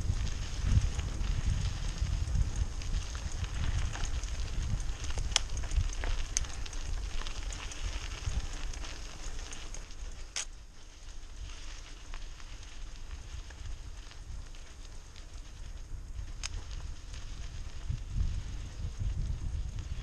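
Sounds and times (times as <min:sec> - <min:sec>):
bike rattling: 0:00.0 - 0:20.0
bike tyres crunching on gravel: 0:00.0 - 0:20.0
wind rumble on microphone: 0:00.0 - 0:20.0.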